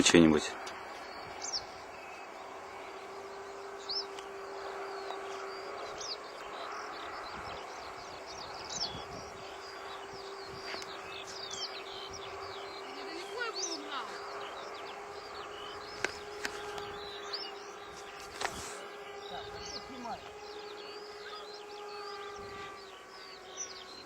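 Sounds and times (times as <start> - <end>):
faint steady hum: 0.0 - 24.0
small birds chirping: 0.0 - 24.0.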